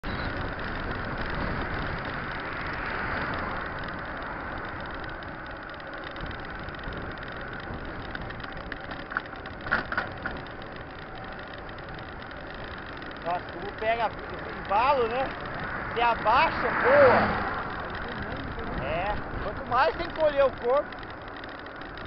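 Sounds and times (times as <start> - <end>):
wind on microphone: 0.0 - 21.4
bike tyres rolling over trail: 0.0 - 22.0
sharp clicks or rattles: 0.0 - 22.0.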